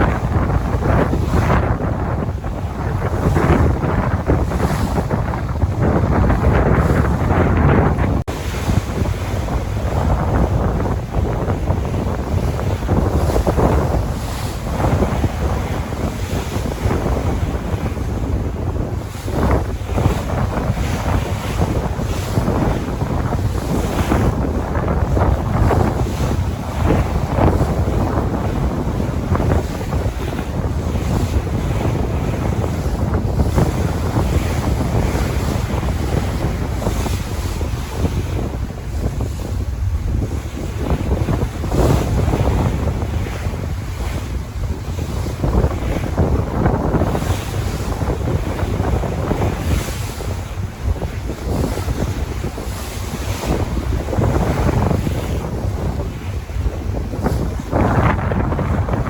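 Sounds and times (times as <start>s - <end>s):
sea waves washing in: 0.0s - 59.0s
wind buffeting microphone: 0.0s - 59.0s.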